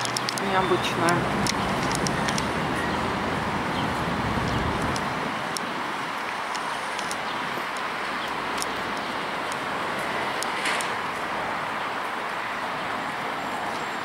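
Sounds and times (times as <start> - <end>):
passing vehicle rumble: 0.0 - 14.0
road traffic noise: 0.0 - 14.0.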